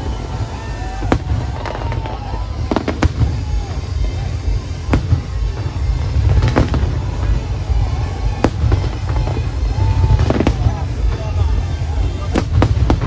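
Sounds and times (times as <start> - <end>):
sharp firework cracks: 0.0 - 4.0, 4.8 - 11.3, 12.2 - 13.0
low rumble of firework bursts: 0.0 - 13.0.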